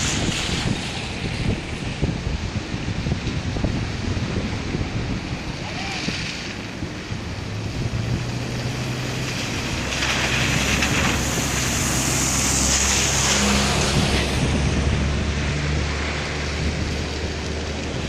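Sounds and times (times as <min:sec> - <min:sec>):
heavy vehicle engine hum: 0:00.0 - 0:18.0
surging water rushing: 0:00.0 - 0:18.0
wind on microphone: 0:00.0 - 0:18.0.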